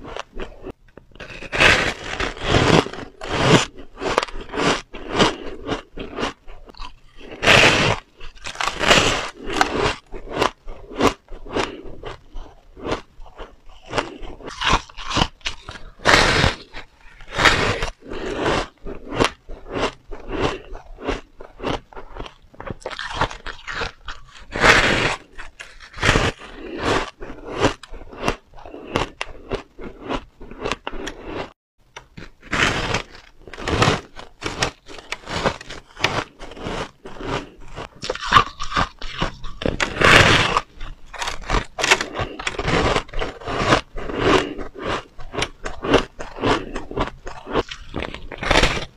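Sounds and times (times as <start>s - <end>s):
chewing crunchy shaved ice: 0.0s - 48.9s.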